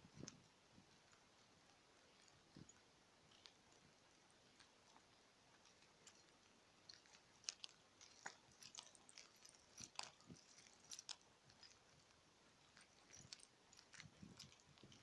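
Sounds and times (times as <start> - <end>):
faint small clicks and crackles: 0.0 - 15.0.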